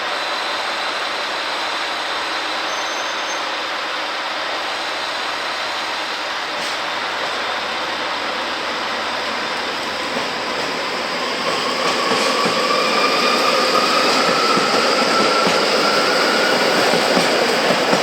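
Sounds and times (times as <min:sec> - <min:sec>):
train mechanical noise: 0:00.0 - 0:18.0.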